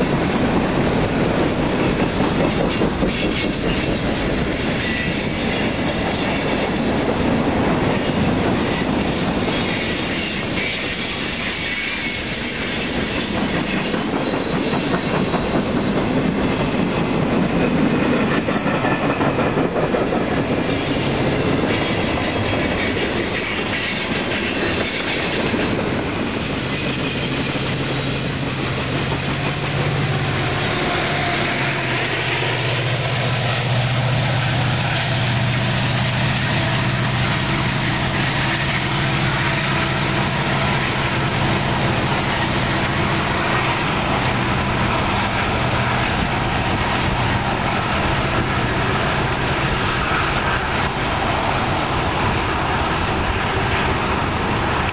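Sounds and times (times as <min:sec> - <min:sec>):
train wheels clicking over rail joints: 0:00.0 - 0:54.9
train wheels squealing: 0:01.8 - 0:51.2.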